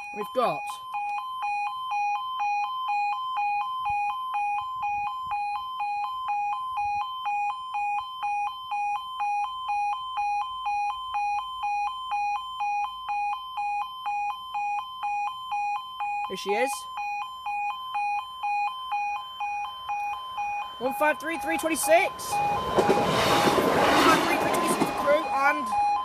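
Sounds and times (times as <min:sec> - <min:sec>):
two-tone electronic alarm: 0:00.0 - 0:26.0.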